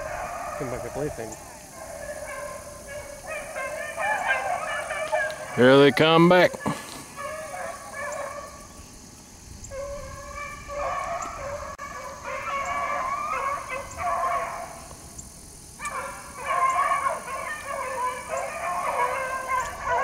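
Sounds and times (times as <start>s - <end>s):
hounds baying in chorus: 0.0s - 8.9s, 9.5s - 20.0s.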